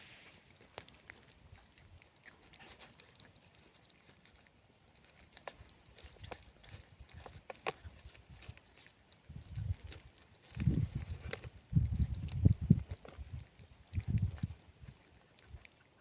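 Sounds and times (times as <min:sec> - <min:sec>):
puppies chewing and mouthing: 0:00.0 - 0:16.0.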